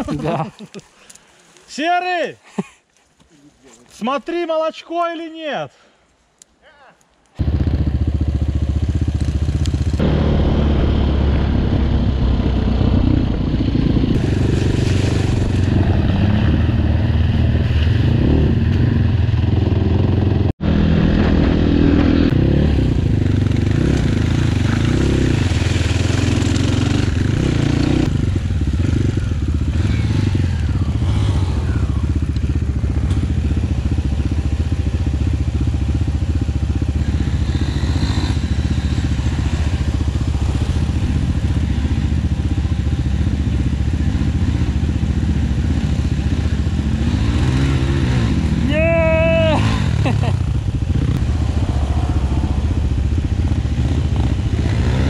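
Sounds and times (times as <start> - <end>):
off-road motorcycle engine revving: 7.4 - 55.0.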